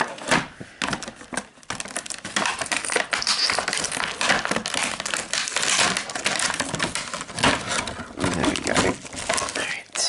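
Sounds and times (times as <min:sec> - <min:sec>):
packaging crinkling and crackling: 0:00.2 - 0:10.0.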